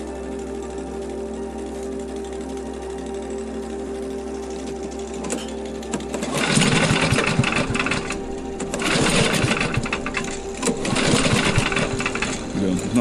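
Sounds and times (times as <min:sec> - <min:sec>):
small engine running and revving: 0:00.0 - 0:13.0.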